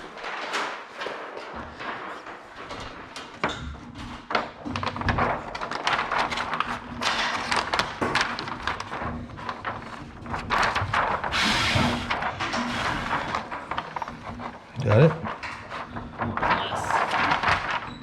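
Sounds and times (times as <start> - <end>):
scattered taps and knocks: 0.1 - 11.3, 12.1 - 18.0.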